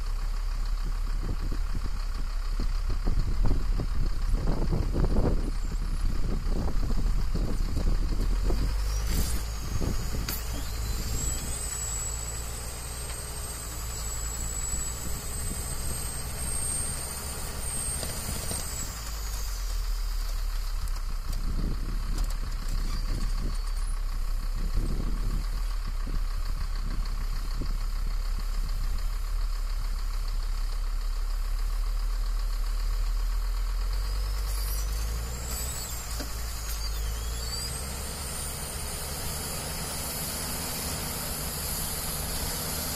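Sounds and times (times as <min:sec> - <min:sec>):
heavy vehicle engine running: 0:00.0 - 0:42.9.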